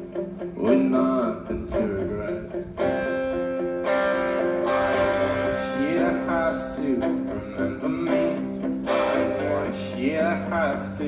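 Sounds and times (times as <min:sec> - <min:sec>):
person singing: 0:00.0 - 0:03.4, 0:04.3 - 0:11.0
guitar strumming chords: 0:00.0 - 0:11.0.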